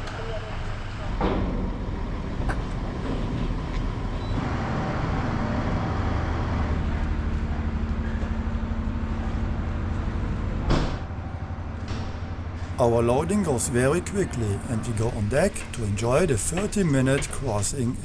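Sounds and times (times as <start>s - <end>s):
heavy engines rumbling: 0.0s - 18.0s.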